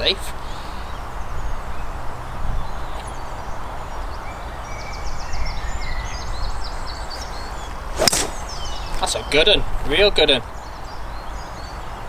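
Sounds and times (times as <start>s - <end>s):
songbirds singing: 0.0s - 12.0s
wind rumble on microphone: 0.8s - 12.0s.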